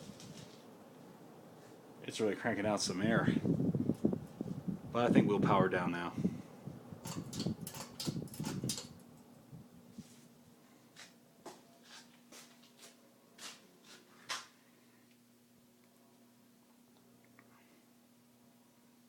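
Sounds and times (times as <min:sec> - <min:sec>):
ceiling fan coasting down: 0:00.0 - 0:19.0
faint steady hum with ticks: 0:00.0 - 0:19.0.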